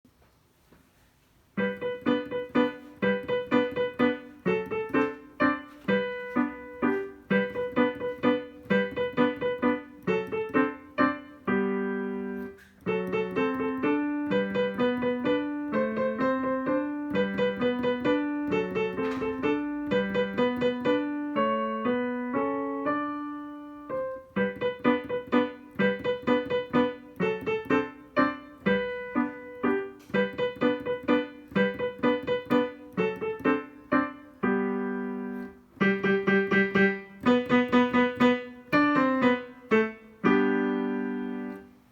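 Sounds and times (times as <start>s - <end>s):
piano staccato notes: 1.6s - 41.8s.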